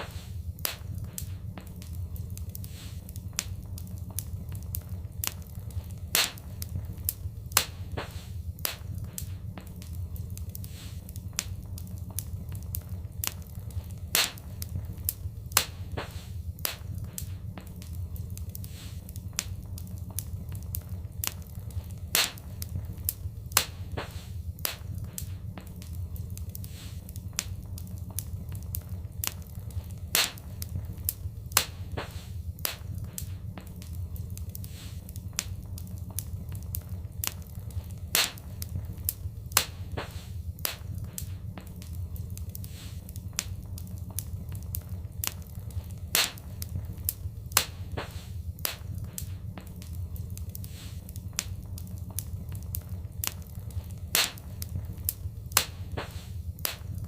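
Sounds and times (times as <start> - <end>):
low rumble: 0.0 - 57.0
wood fire crackling: 0.0 - 57.0.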